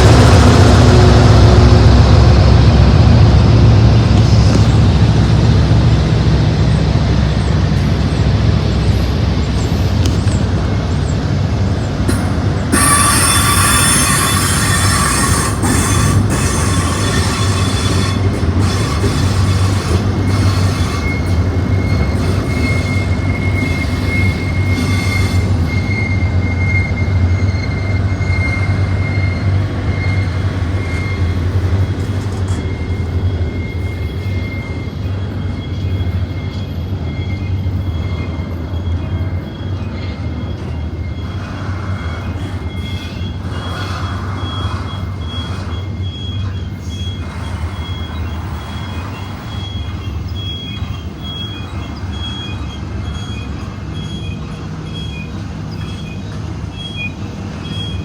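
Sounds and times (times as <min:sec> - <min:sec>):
freight train rumbling past: 0:00.0 - 0:58.0
train wheels squealing: 0:06.6 - 0:58.0.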